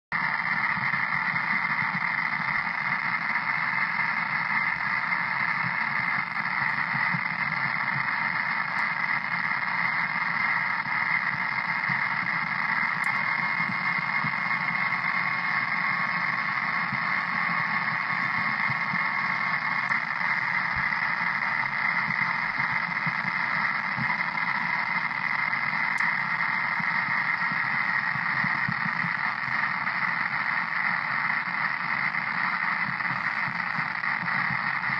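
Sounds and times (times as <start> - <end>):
radio static hiss: 0.0 - 34.9
faint steady tone: 0.2 - 34.9.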